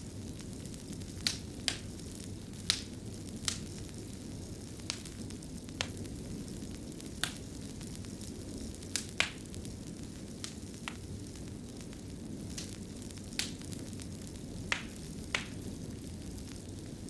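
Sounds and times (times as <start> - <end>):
fire burning rumble: 0.0 - 17.0
wood fire popping: 0.0 - 17.0.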